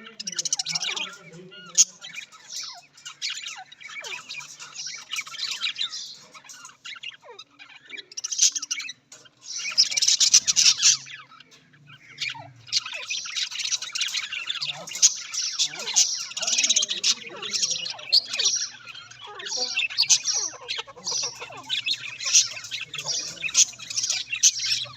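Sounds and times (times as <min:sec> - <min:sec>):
budgerigars chattering: 0:00.0 - 0:24.9.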